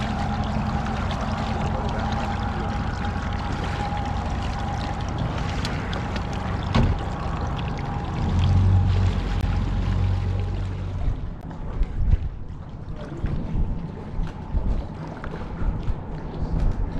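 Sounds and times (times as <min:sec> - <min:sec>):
boat motor humming: 0:00.0 - 0:16.6
water noise: 0:00.0 - 0:16.9.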